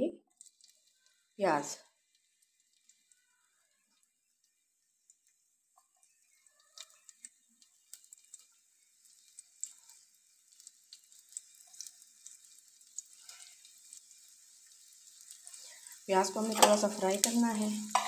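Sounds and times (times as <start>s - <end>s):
onion sizzling in oil: 0.2s - 18.0s.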